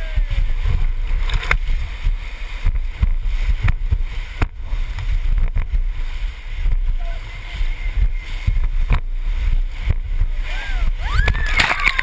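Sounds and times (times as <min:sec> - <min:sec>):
rushing whitewater: 0:00.0 - 0:12.0
wind buffeting microphone: 0:00.0 - 0:12.0.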